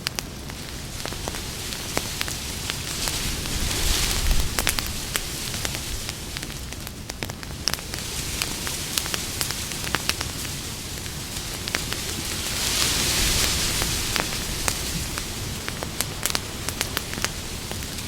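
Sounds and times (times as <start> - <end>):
campfire hissing: 0.0 - 18.0
wood crackling and popping: 0.0 - 18.0.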